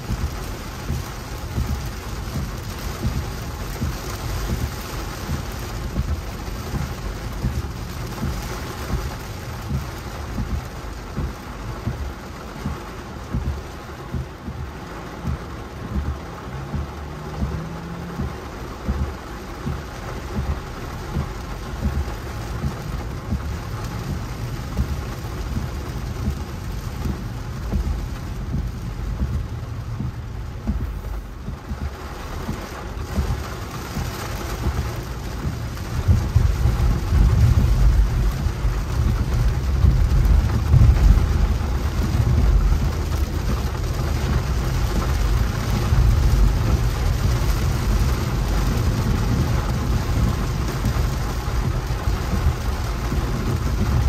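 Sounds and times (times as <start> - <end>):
rain on car windshield: 0.0 - 54.0
road and engine noise: 0.0 - 54.0.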